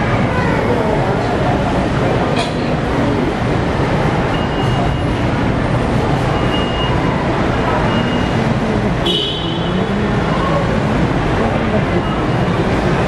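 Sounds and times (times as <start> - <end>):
faint indistinct voices: 0.0 - 13.0.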